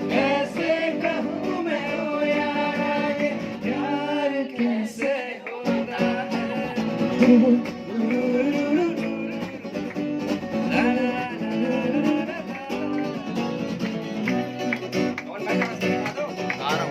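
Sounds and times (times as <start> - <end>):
person singing love song: 0.0 - 13.8
guitar-led instrumental music: 0.0 - 16.9.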